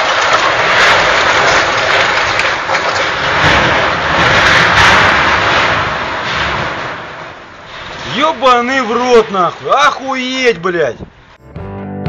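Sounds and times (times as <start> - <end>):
storm wind gusting on microphone: 0.0 - 11.3.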